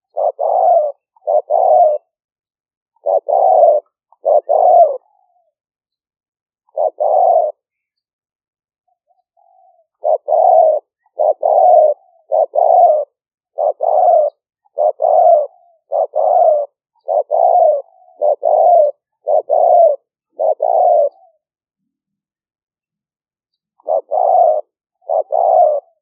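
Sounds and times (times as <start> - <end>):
dove cooing: 0.0 - 2.2, 3.0 - 5.6, 6.7 - 7.9, 8.8 - 22.0, 23.6 - 26.0.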